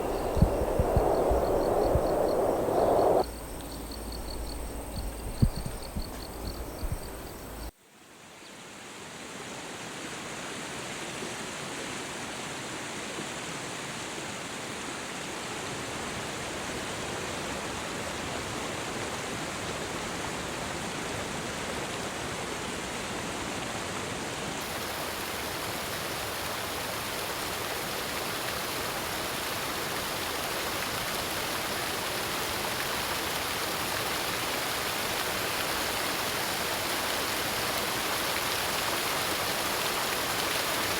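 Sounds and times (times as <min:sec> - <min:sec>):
rushing water hiss: 0:00.0 - 0:40.9.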